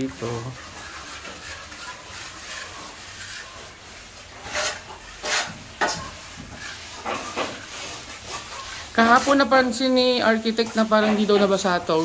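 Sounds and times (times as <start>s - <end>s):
trowel scraping wet plaster: 0.0s - 12.0s.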